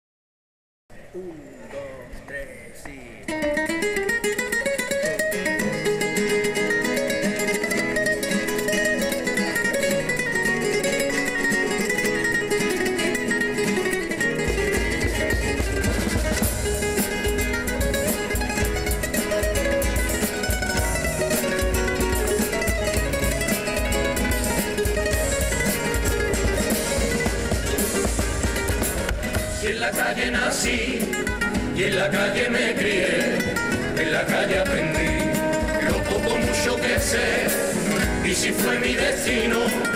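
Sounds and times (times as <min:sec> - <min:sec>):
guitars strumming and picking: 0:03.2 - 0:39.9.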